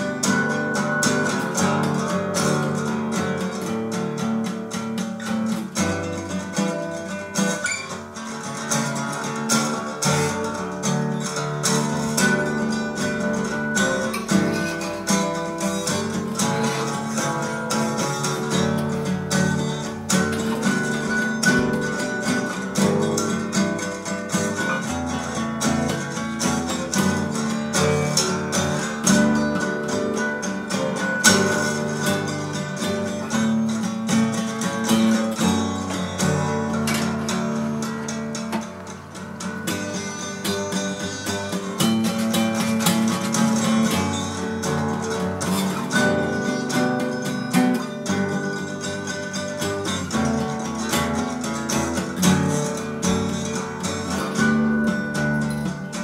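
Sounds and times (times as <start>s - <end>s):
plucked guitar music: 0.0s - 56.0s.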